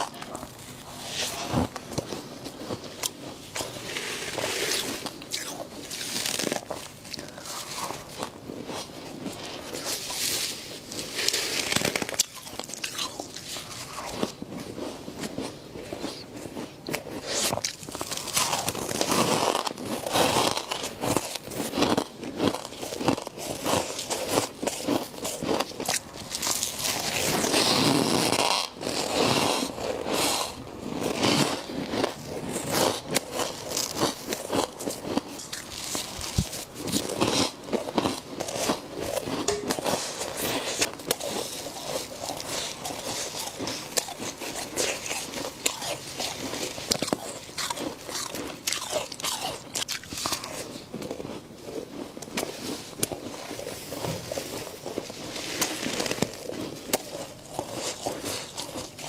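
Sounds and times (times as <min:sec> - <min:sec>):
biting and chewing frost: 0:00.0 - 0:59.0.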